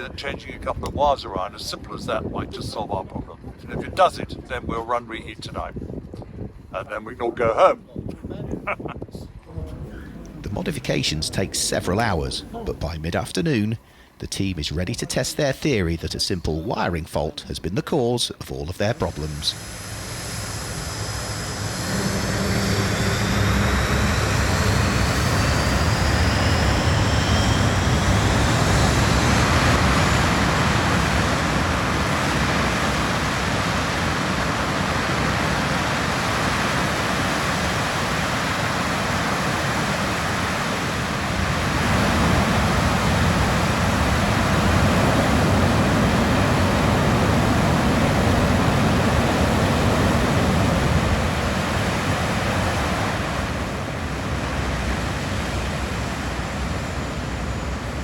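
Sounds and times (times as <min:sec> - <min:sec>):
turbine whine: 0:00.0 - 0:58.0
jet engine roaring: 0:09.5 - 0:17.9, 0:18.6 - 0:58.0.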